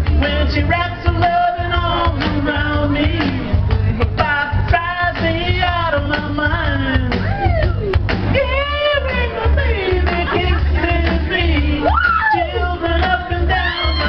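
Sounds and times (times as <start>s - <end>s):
man singing karaoke: 0.0s - 14.0s
rock backing track: 0.0s - 14.0s.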